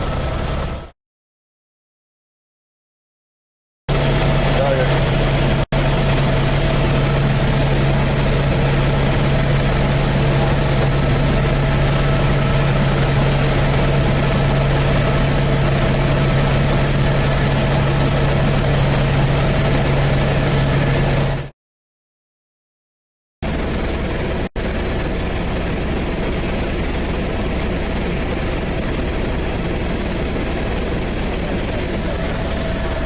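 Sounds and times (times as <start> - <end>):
helicopter engine and rotors drone: 0.0 - 0.9, 3.9 - 21.5, 23.4 - 33.0.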